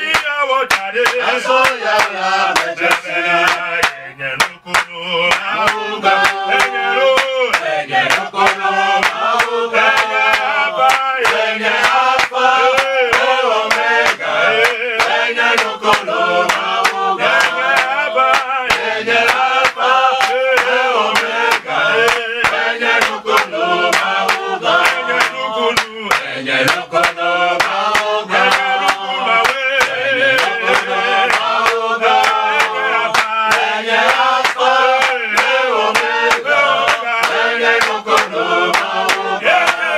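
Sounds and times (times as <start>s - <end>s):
hands clapping a beat: 0.0s - 39.9s
men singing a chant together: 0.0s - 39.9s.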